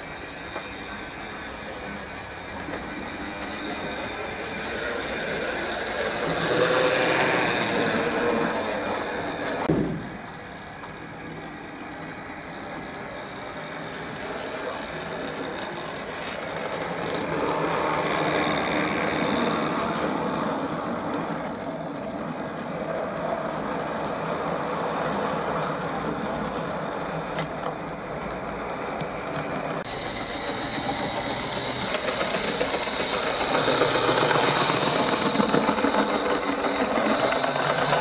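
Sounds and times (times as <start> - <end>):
model train running on track: 0.0 - 38.0.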